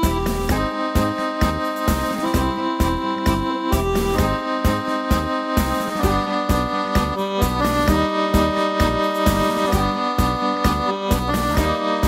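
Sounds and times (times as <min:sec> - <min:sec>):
bass beat: 0:00.0 - 0:12.0
tango music with accordion: 0:00.0 - 0:12.0.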